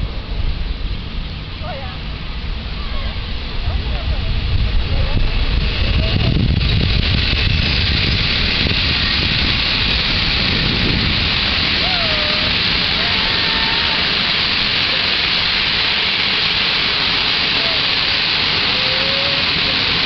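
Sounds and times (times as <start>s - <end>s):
steady rushing hiss: 0.0s - 20.0s
train wheels rumbling on rails: 0.0s - 20.0s.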